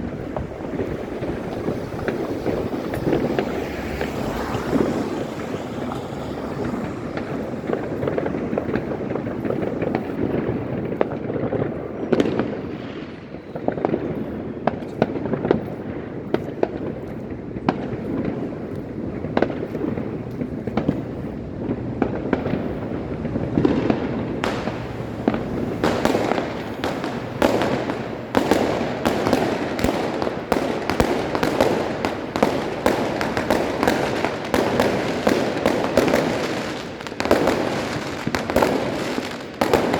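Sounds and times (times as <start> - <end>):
firework cracks: 0.0 - 39.9
rumble of firework bangs: 0.0 - 39.9.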